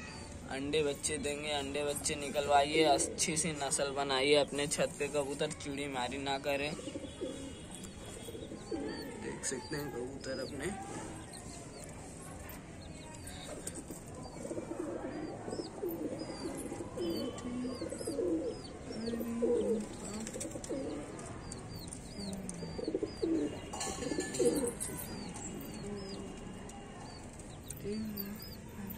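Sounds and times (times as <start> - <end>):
pigeons cooing: 1.3 - 11.8, 13.3 - 28.9.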